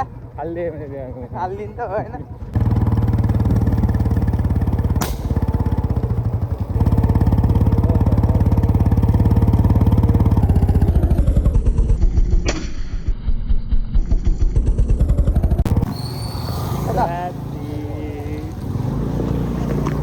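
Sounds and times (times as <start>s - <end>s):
motorcycle engine running: 2.4s - 16.0s, 16.9s - 20.0s
exhaust cracks: 2.6s - 20.0s.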